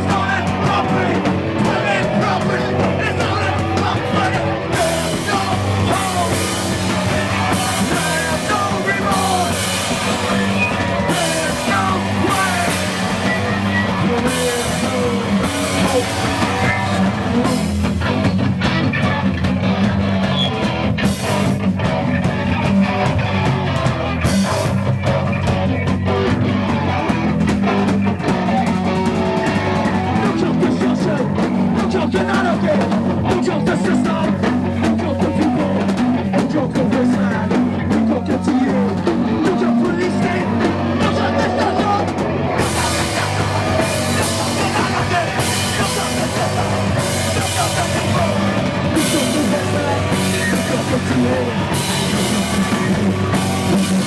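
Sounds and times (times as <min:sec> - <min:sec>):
drum kit: 0:00.0 - 0:54.0
guitar: 0:00.0 - 0:54.0
live rock band: 0:00.0 - 0:54.0.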